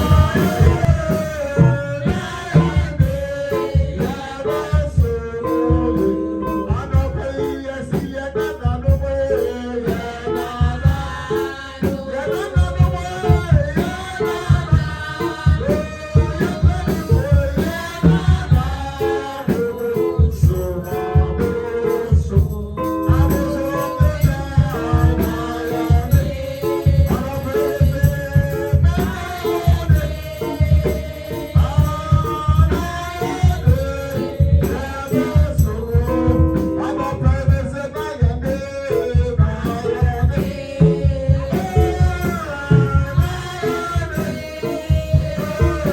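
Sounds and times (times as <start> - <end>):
gospel singing: 0.0 - 45.9
shaker or tambourine percussion: 0.0 - 45.9
steady drum beat: 0.0 - 45.9.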